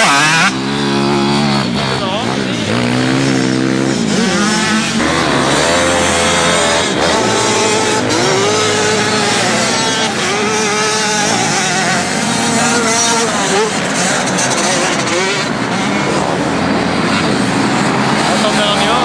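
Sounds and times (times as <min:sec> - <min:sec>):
small motorcycle engine revving: 0:00.0 - 0:19.0.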